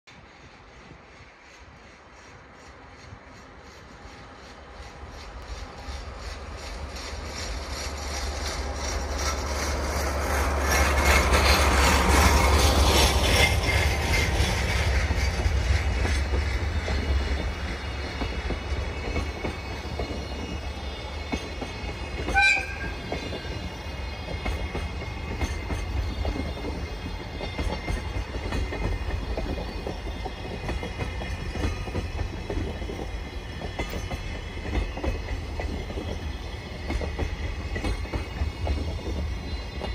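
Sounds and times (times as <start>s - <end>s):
diesel locomotive engine passing: 0.1s - 39.9s
wheels clacking over rail joints: 2.6s - 39.9s.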